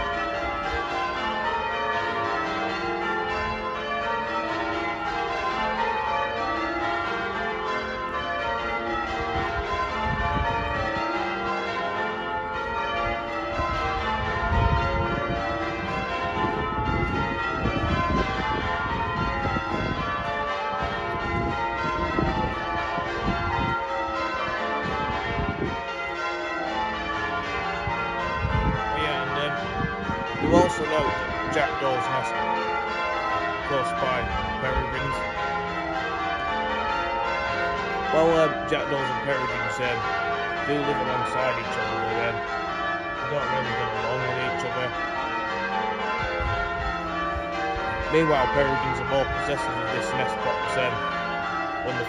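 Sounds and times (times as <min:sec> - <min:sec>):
church bells change ringing: 0:00.0 - 0:52.0.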